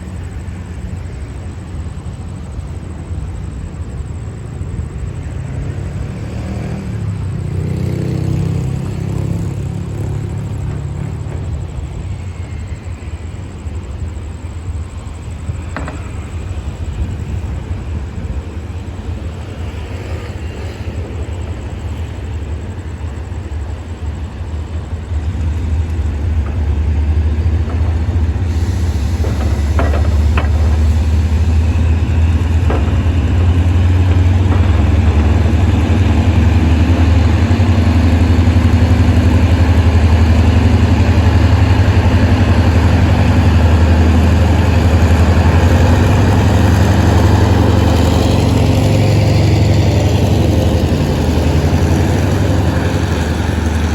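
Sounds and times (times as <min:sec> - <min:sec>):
diesel locomotive engine drone: 0:00.0 - 0:53.9.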